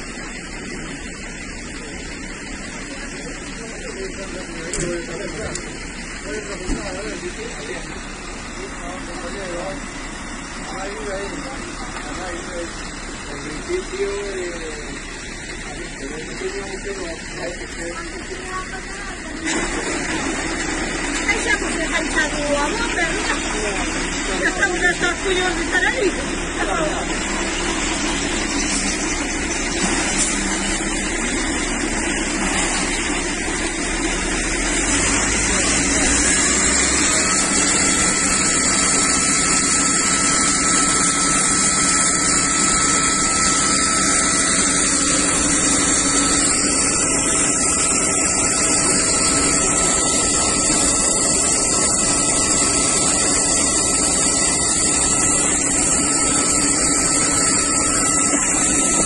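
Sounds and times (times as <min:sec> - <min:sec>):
fire hose spraying water: 0:00.0 - 0:59.0
thin steady whine: 0:00.0 - 0:59.0.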